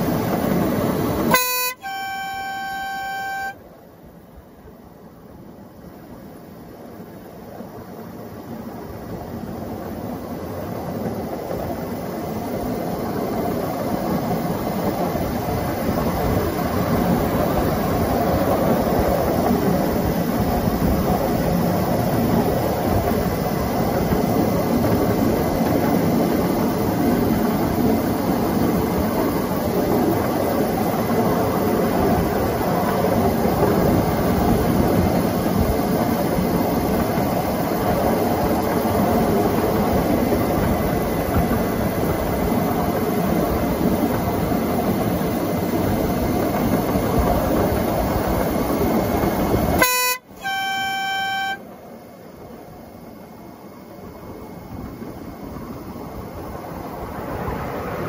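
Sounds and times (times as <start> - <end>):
faint high whine: 0.0 - 58.0
miniature train running on track: 0.0 - 58.0.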